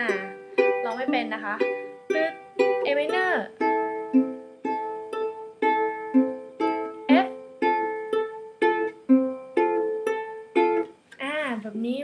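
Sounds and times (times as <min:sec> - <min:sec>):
ukulele fingerpicked slowly: 0:00.0 - 0:11.1.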